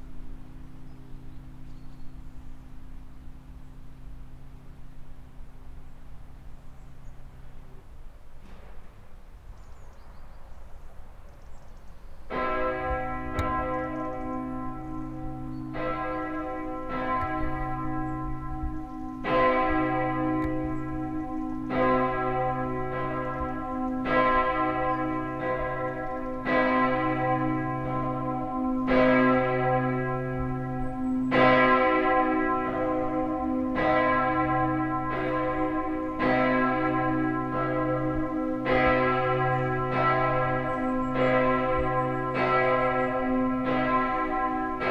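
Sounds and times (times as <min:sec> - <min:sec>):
low bell hum: 0:00.0 - 0:07.2, 0:12.3 - 0:44.9
large church bell ringing: 0:00.0 - 0:07.6, 0:12.3 - 0:44.9.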